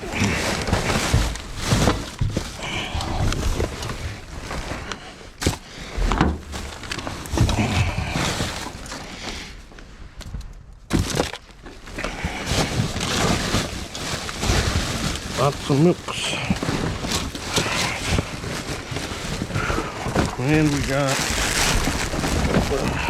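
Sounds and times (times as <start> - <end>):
rustling bags and boxes: 0.0 - 23.0.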